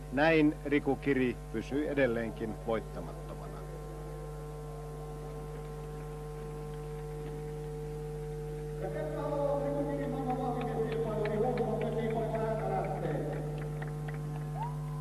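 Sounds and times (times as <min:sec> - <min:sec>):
mains hum: 0:00.0 - 0:15.0.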